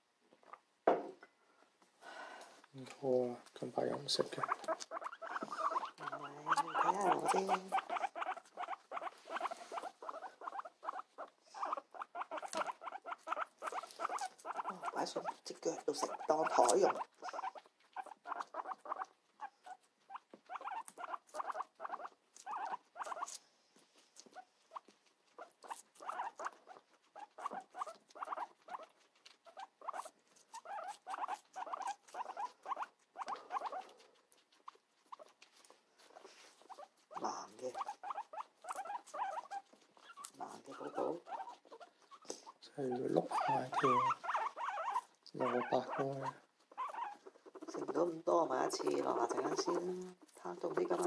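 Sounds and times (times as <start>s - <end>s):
guinea pigs crunching cucumber: 2.7s - 51.0s.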